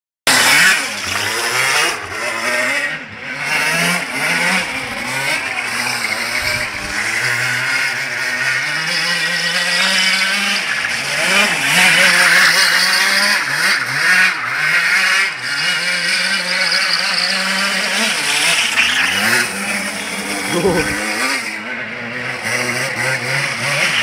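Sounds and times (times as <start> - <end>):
go-kart engine revving: 0.3 - 24.0.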